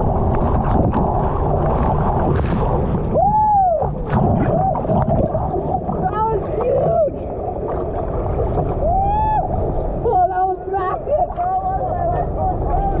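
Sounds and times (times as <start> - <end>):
churning whitewater splashing: 0.0 - 13.0
wind on microphone: 0.0 - 13.0.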